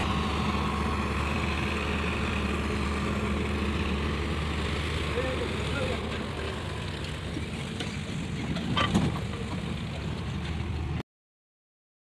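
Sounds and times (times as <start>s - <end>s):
heavy machinery diesel engine: 0.0s - 11.0s.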